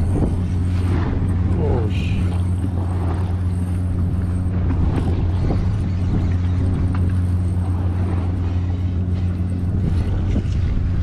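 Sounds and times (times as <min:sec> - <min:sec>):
boat machinery droning: 0:00.0 - 0:11.0.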